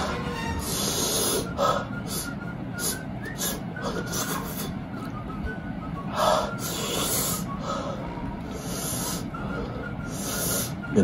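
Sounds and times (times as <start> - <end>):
man breathing heavily: 0.0 - 5.1, 6.0 - 10.9.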